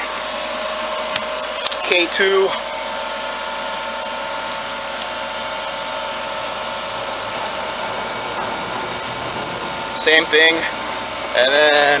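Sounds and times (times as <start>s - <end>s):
air cooler fans blowing: 0.0s - 12.0s.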